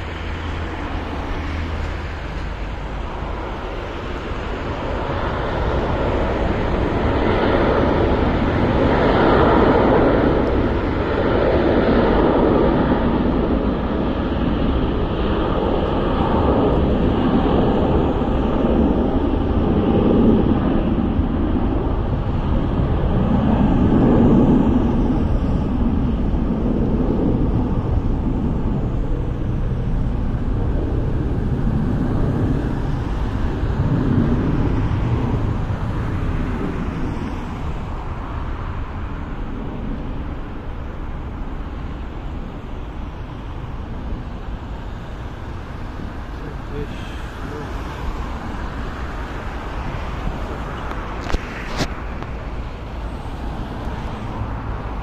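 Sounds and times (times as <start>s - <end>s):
jet engines at takeoff: 0.0s - 55.0s.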